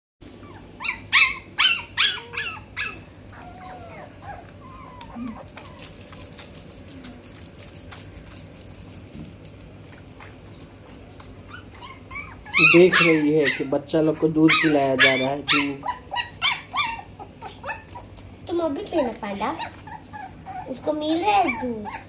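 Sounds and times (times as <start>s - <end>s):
puppy whining: 0.3s - 9.1s, 9.8s - 22.0s
puppy yelping: 0.4s - 7.3s, 10.0s - 18.3s, 19.4s - 22.0s.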